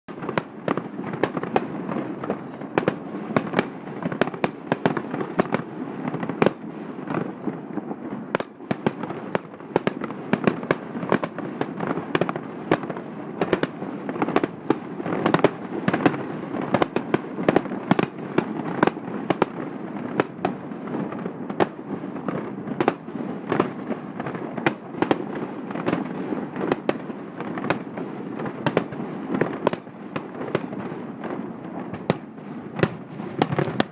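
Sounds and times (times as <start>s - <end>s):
fireworks bangs: 0.1s - 33.9s
fireworks crackle: 0.1s - 33.9s.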